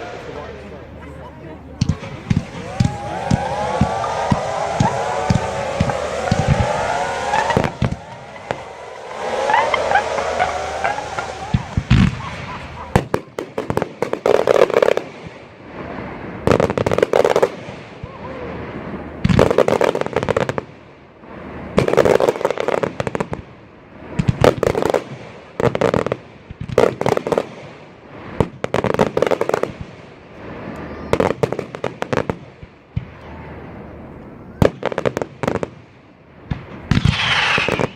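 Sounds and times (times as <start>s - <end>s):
fireworks crackling bangs: 0.0s - 37.9s.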